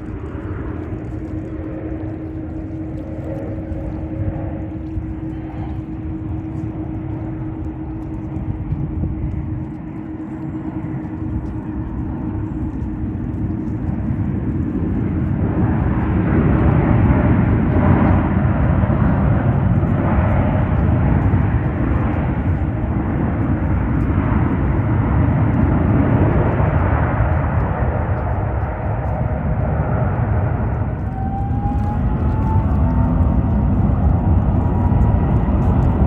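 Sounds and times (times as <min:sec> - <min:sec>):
jet airliner engine rumble: 0:00.0 - 0:36.0.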